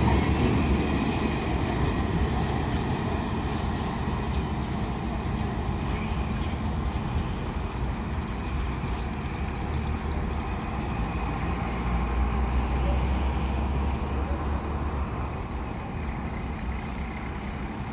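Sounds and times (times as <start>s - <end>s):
freight train rumbling: 0.0s - 17.9s.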